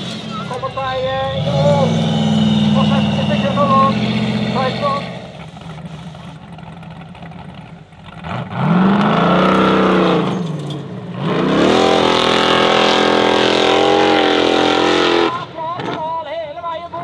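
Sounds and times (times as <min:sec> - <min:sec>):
off-road car engine revving: 0:00.0 - 0:16.0.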